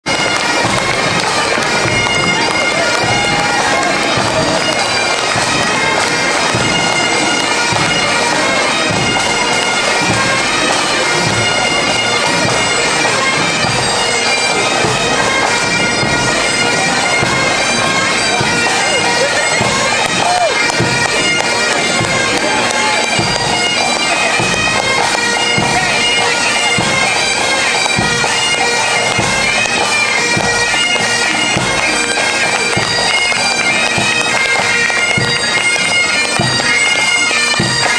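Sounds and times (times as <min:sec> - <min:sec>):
bagpipes playing a march: 0:00.0 - 0:37.9.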